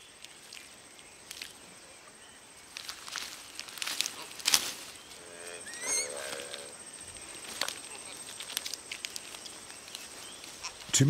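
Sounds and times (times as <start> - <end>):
twigs snapping: 0.0 - 1.8, 2.6 - 5.1, 5.8 - 10.9
leaves rustling and crackling: 0.0 - 11.0.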